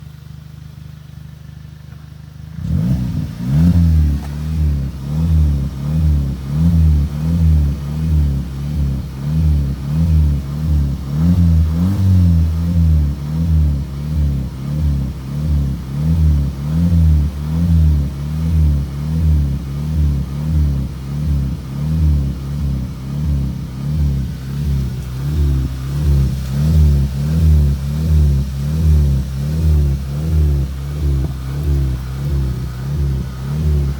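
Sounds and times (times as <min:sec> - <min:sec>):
car engine revving: 0:01.4 - 0:33.9.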